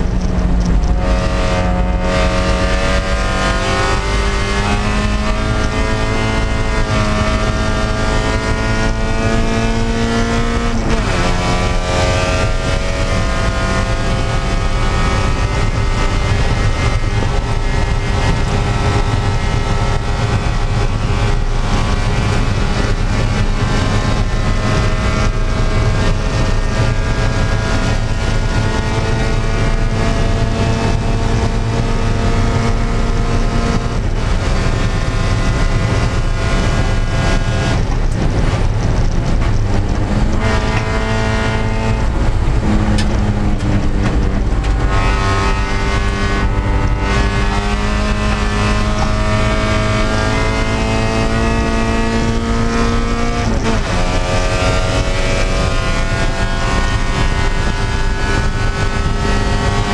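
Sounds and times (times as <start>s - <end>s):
racing car engine: 0.0s - 59.9s
road and wind noise: 0.0s - 59.9s.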